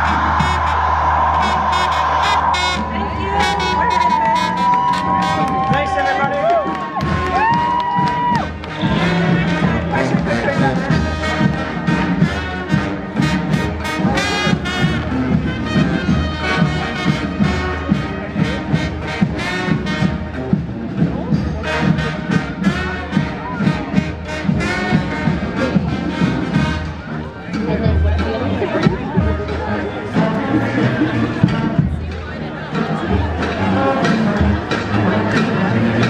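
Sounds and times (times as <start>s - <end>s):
street brass band playing: 0.0s - 36.0s.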